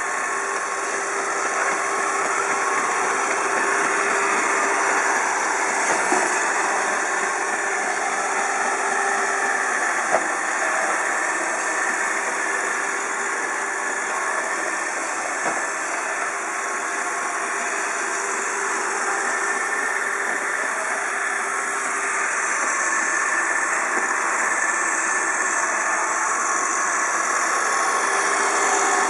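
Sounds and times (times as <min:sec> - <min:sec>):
robot vacuum whirring: 0:00.0 - 0:29.0.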